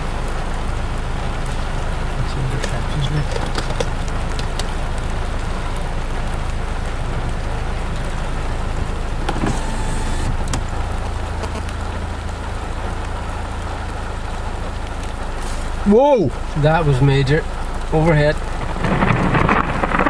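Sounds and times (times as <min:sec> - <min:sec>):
car engine running: 0:00.0 - 0:20.0
rain on a car: 0:00.0 - 0:20.0.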